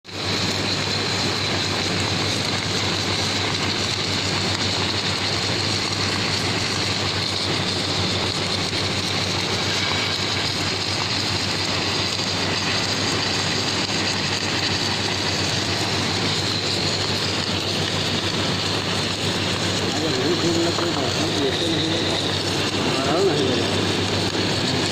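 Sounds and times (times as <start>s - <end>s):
welding machine running: 0.0s - 24.9s.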